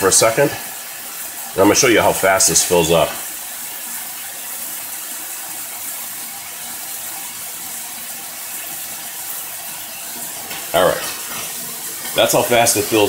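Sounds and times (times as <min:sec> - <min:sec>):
water running from faucet: 0:00.0 - 0:13.0.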